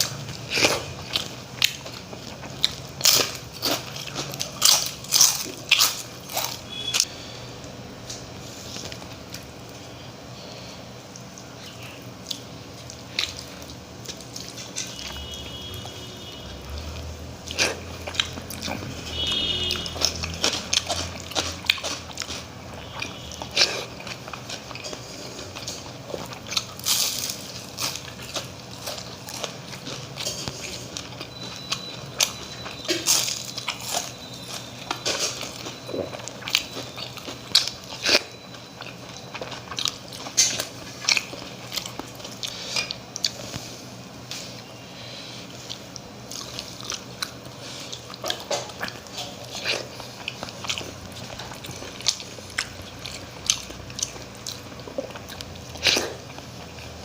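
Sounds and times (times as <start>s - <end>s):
crunchy food crunching: 0.0s - 9.8s, 11.1s - 43.8s, 45.6s - 57.0s
person chewing: 0.0s - 57.0s.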